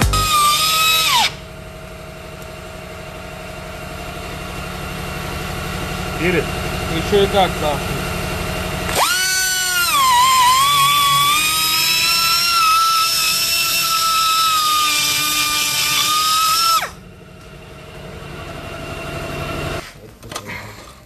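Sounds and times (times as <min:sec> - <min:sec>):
die grinder whining: 0:00.0 - 0:21.0.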